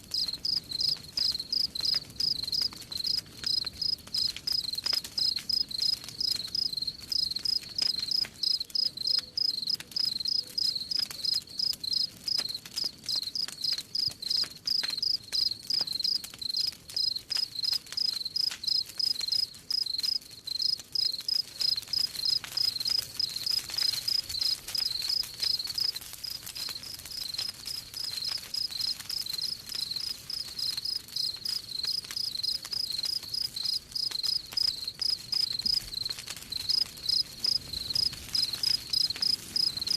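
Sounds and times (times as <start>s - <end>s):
campfire crackling: 0.0s - 39.9s
cricket chirping: 0.1s - 12.5s, 13.1s - 39.9s.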